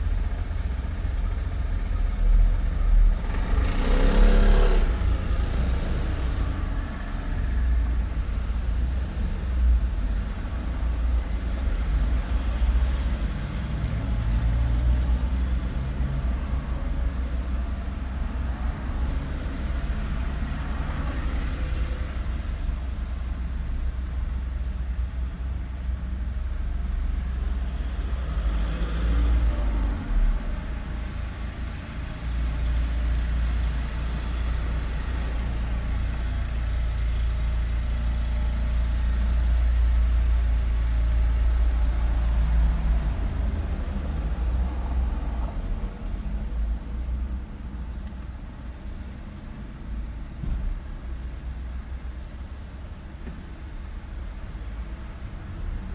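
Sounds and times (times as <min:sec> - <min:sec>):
loud vehicles passing by: 0:00.0 - 0:23.4, 0:26.9 - 0:50.8
traffic rumble: 0:00.0 - 0:55.9.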